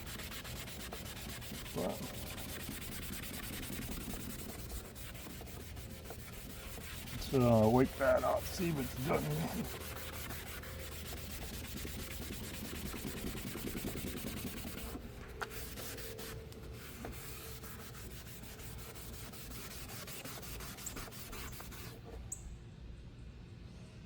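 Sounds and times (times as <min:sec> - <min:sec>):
hand rubbing plastic lens: 0:00.0 - 0:22.2.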